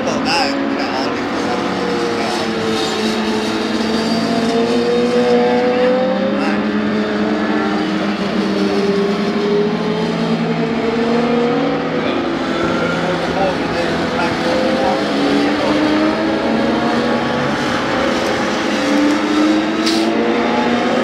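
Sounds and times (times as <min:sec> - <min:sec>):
racing motorcycles at high revs: 0:00.0 - 0:21.0.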